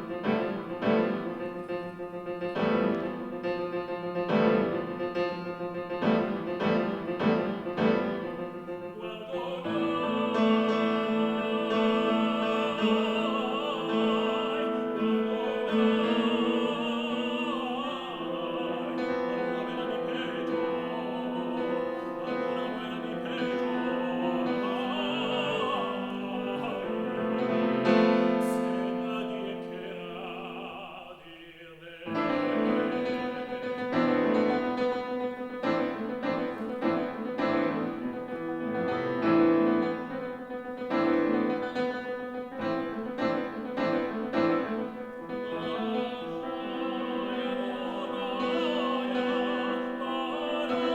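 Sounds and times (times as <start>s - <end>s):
piano accompaniment: 0.0s - 50.9s
tenor singing operatic song: 0.0s - 50.9s.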